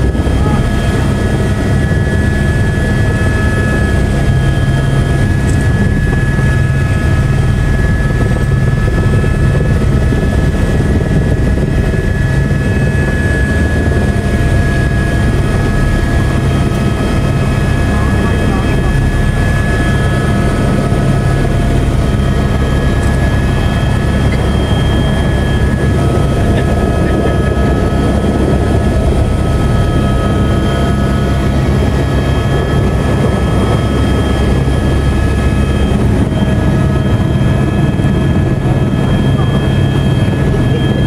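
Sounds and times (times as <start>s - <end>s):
helicopter engine and rotor drone: 0.0s - 41.0s
high whine: 0.0s - 41.0s.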